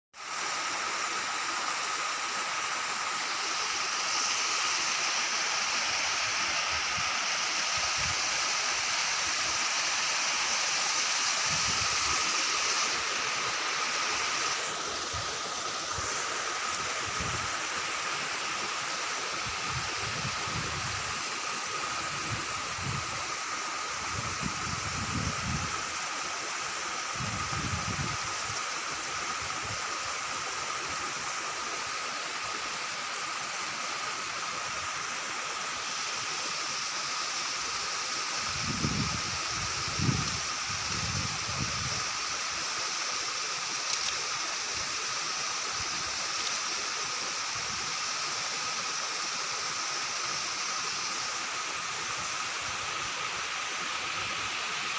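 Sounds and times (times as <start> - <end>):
outdoor background hiss: 0.2 - 54.9.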